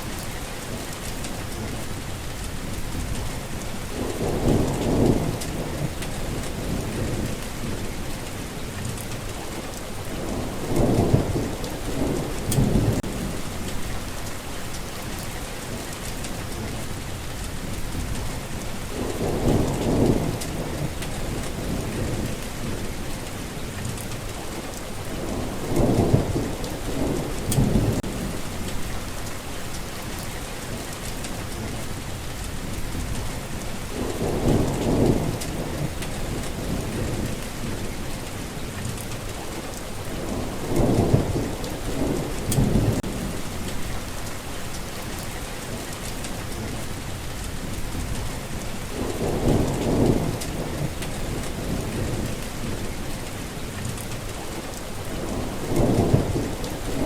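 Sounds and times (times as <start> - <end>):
low rumbles of thunder: 0.0 - 24.3, 25.0 - 57.0
steady rain falling: 0.0 - 57.0.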